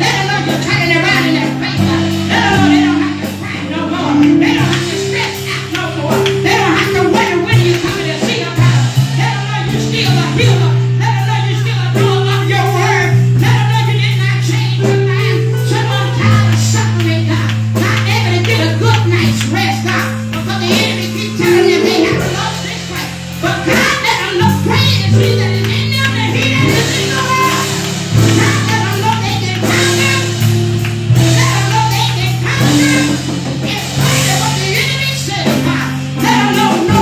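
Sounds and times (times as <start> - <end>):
held keyboard chords: 0.0 - 37.0
person singing: 0.0 - 37.0.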